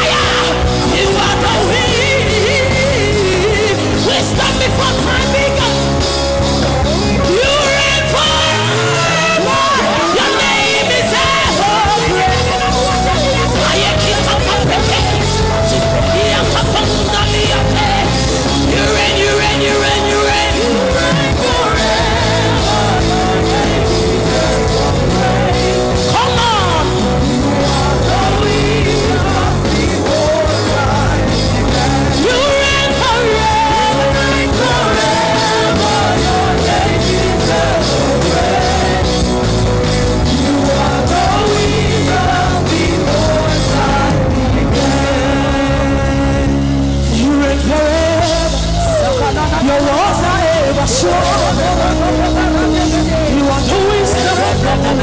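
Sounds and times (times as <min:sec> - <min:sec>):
gospel singers with band: 0:00.0 - 0:55.0.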